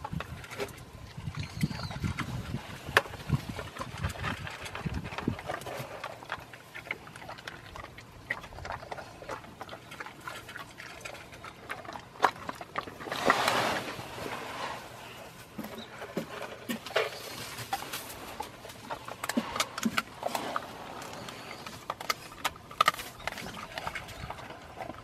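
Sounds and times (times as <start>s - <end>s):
dog crunching kibble: 0.0s - 25.0s.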